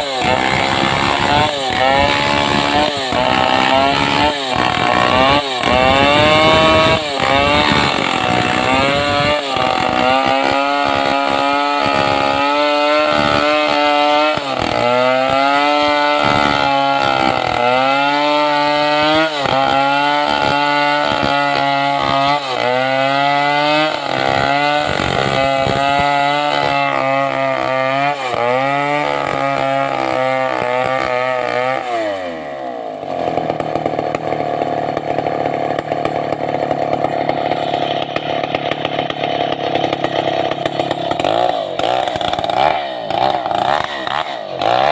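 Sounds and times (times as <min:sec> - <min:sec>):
chainsaw cutting a log: 0:00.0 - 0:44.9.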